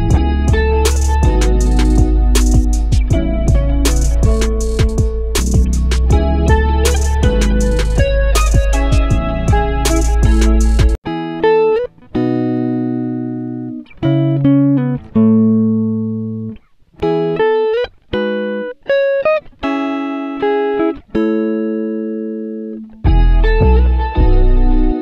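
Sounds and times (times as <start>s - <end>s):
slow plucked melody: 0.0s - 25.0s.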